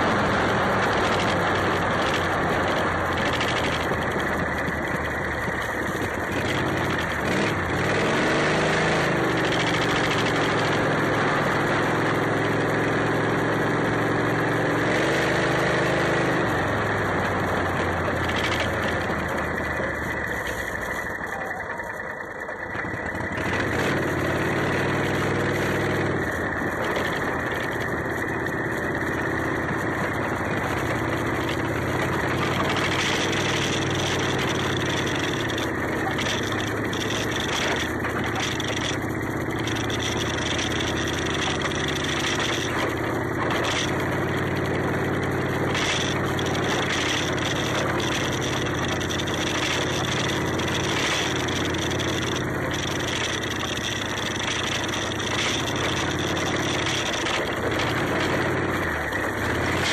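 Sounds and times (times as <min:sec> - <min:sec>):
golf cart engine running: 0:00.0 - 0:59.9
wind and road noise: 0:00.0 - 0:59.9.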